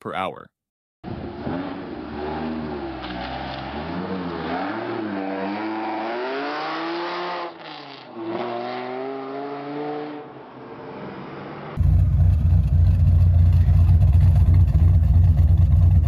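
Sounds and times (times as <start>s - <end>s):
car engine accelerating: 1.1s - 10.3s, 11.0s - 16.0s.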